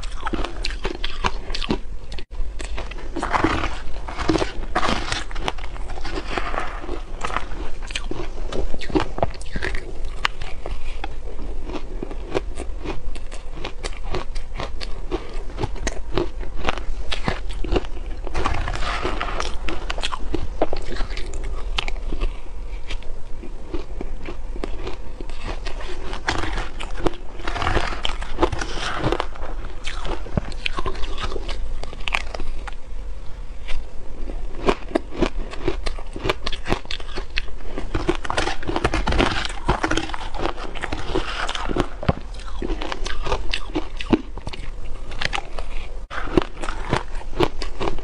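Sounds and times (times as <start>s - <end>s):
chewing crunchy shaved ice: 0.0s - 32.9s, 33.6s - 48.0s.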